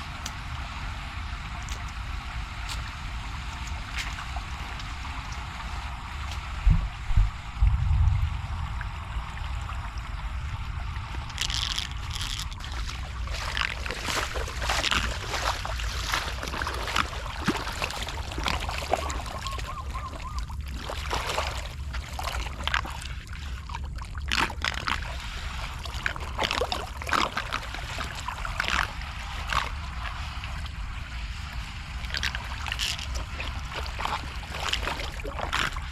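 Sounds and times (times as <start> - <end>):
floodwater running and splashing: 0.0 - 35.9.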